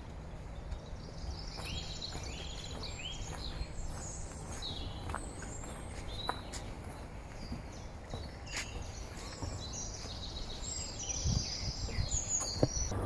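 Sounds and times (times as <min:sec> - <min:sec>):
songbirds singing and chirping: 0:00.0 - 0:13.0
steady low rumble: 0:00.0 - 0:13.0.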